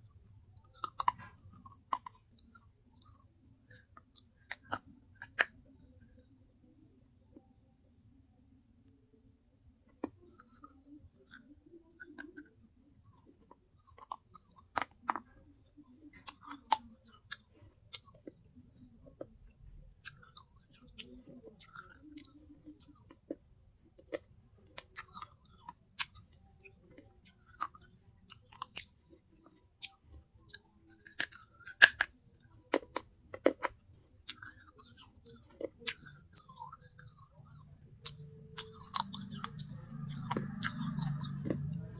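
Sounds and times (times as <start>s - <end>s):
chewing crunchy clay: 0.0s - 6.8s, 9.9s - 41.9s.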